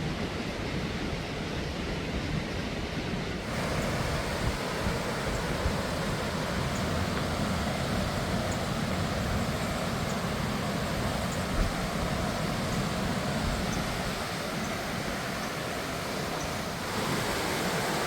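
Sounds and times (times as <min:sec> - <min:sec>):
river water rushing over falls: 0:03.4 - 0:18.0.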